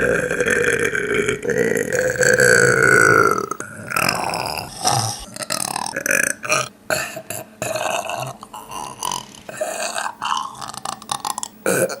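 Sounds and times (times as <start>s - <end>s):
person burping: 0.0s - 12.0s.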